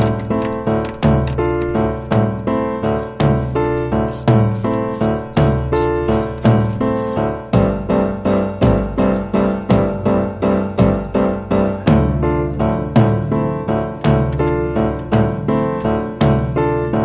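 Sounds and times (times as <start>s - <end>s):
piano playing struck notes: 0.0s - 17.0s.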